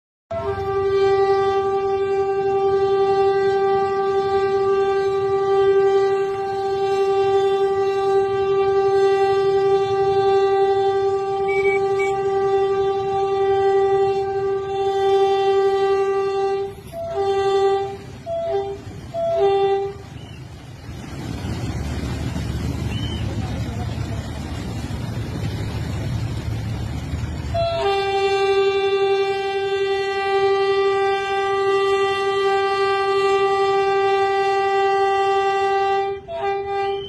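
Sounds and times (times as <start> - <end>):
train horn blasts: 0.3 - 20.6, 27.4 - 37.0.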